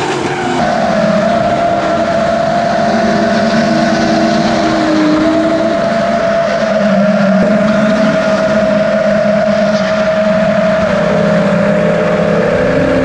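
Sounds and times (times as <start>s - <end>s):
car engines at high revs: 0.0s - 13.0s.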